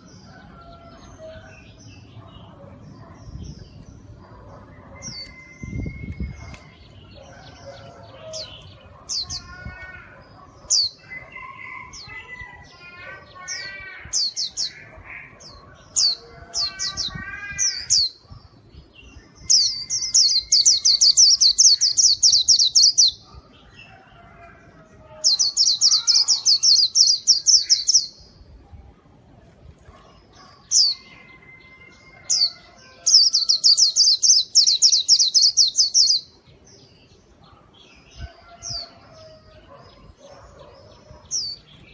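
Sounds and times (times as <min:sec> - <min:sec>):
bird chirping and warbling: 0:00.0 - 0:41.9.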